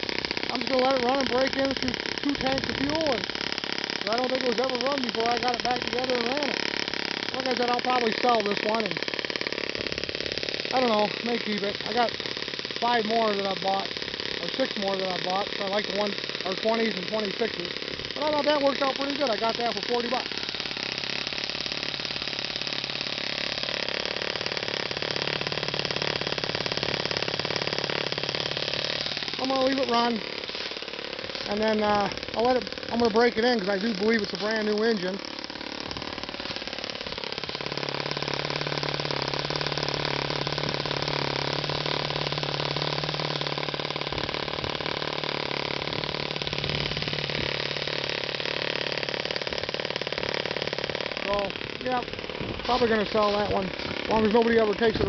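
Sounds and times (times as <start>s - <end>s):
model engine running: 0.0s - 55.0s.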